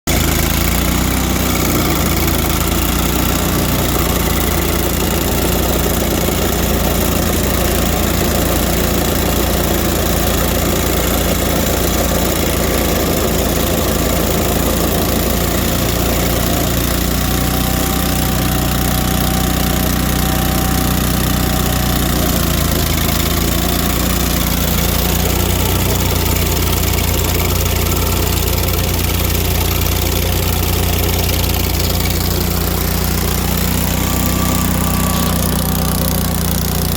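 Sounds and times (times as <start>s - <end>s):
stump grinder engine running: 0.0s - 36.9s.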